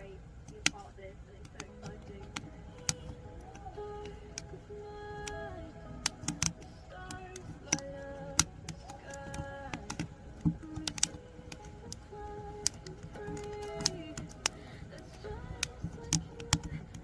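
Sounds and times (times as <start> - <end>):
firewood crackling in stove: 0.0 - 17.0
soft background music: 0.0 - 17.0.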